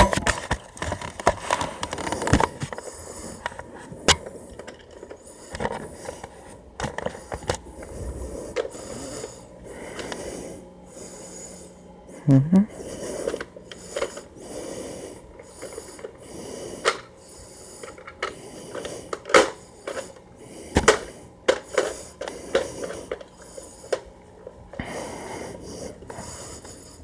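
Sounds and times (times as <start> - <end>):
person breathing: 1.4 - 27.0.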